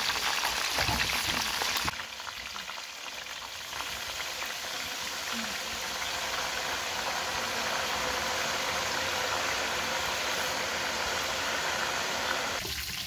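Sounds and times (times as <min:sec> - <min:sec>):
cooking pot sizzling: 0:00.0 - 0:13.0.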